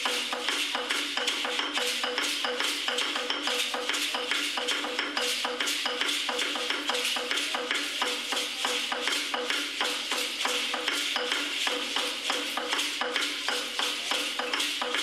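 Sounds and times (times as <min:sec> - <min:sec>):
drum beating quickly: 0:00.0 - 0:15.0
rattles shaking: 0:00.0 - 0:15.0.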